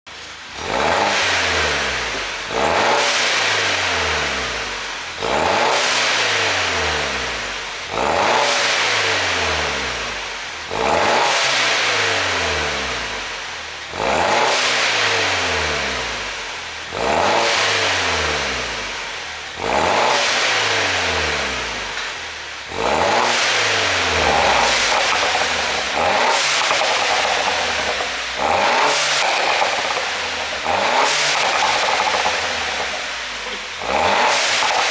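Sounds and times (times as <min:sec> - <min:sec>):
car engine revving: 0:00.2 - 0:34.9.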